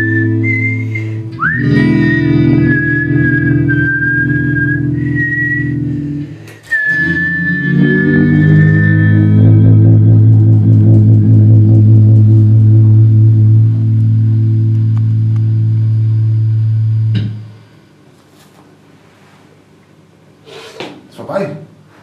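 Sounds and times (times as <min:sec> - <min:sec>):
high held tone: 0:00.0 - 0:18.1
electric guitar through amplifier: 0:00.0 - 0:18.6.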